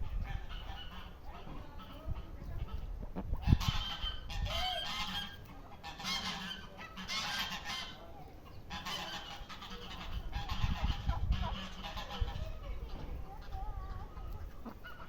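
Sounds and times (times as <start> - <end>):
poultry calling: 0.0 - 15.0.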